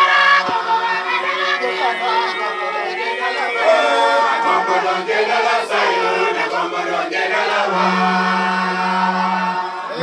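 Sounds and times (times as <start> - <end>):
congregation singing a hymn: 0.0 - 10.0.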